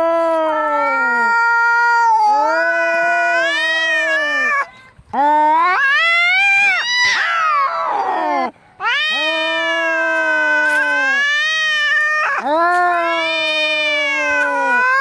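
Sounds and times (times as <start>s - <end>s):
cat yowling: 0.5s - 4.7s, 5.5s - 15.0s.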